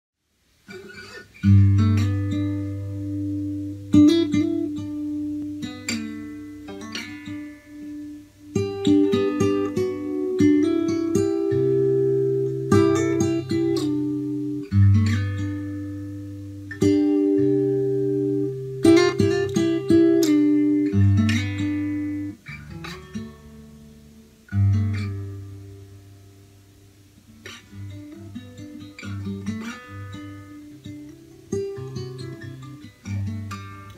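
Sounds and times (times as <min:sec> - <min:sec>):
fingerpicked acoustic guitar: 0:00.6 - 0:33.9.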